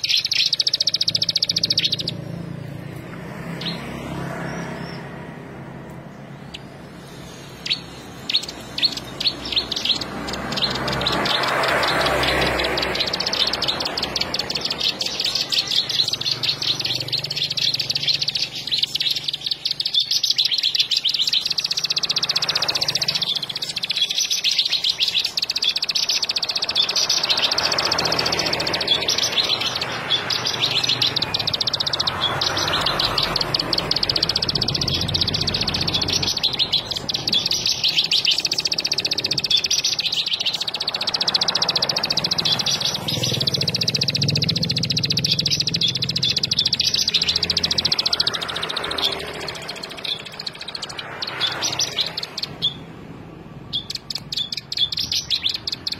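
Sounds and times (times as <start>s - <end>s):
bird singing rapid chirps: 0.0s - 55.9s.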